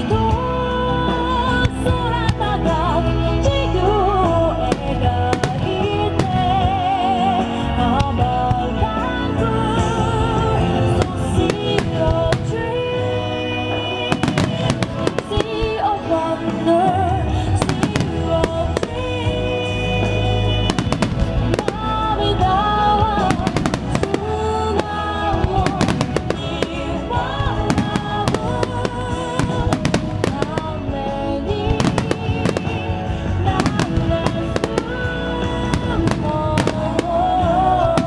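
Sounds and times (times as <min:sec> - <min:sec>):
loud music over loudspeakers: 0:00.0 - 0:38.0
fireworks bursting and crackling: 0:03.6 - 0:09.0, 0:09.8 - 0:38.0.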